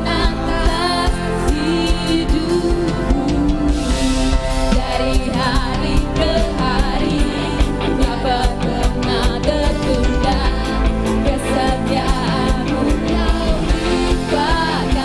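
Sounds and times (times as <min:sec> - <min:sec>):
drums: 0:00.0 - 0:15.0
worship band music: 0:00.0 - 0:15.0.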